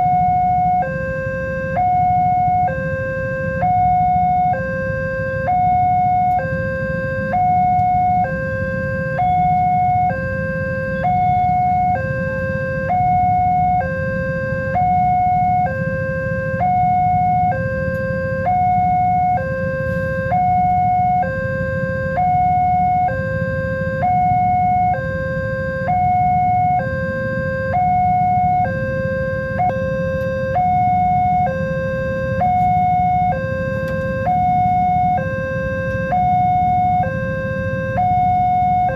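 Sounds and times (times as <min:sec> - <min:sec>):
two-tone level-crossing alarm: 0:00.0 - 0:38.9.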